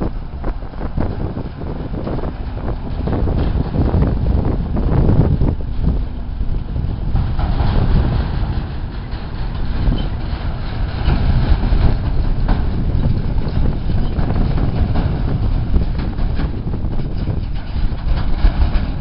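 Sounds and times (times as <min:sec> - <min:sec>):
diesel engine rumbling: 0:00.0 - 0:19.0
trailer wheels rattling: 0:00.0 - 0:19.0.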